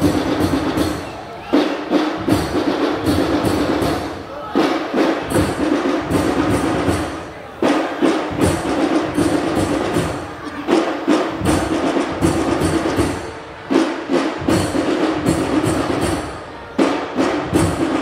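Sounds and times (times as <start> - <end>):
fast sharp drum strikes: 0.0 - 18.0.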